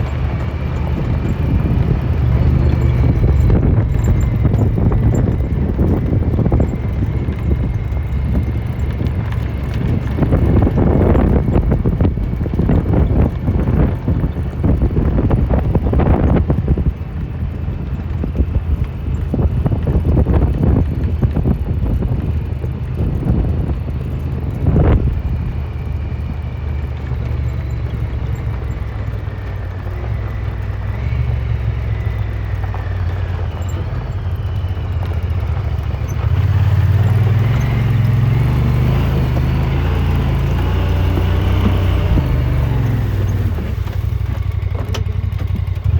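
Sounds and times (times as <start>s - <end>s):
knocks and rattles over rough ground: 0.0s - 45.9s
utility vehicle engine running: 0.0s - 45.9s
wind buffeting microphone: 0.0s - 45.9s.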